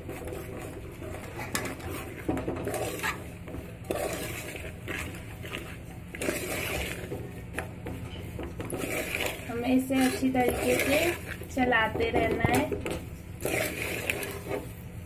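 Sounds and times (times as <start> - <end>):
spoon scraping metal pot: 0.0 - 14.8.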